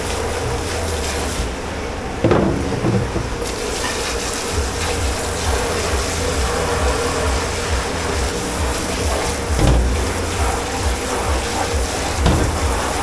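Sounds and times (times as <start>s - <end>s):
machine hum: 0.0s - 13.0s
water running over dishes: 0.0s - 13.0s.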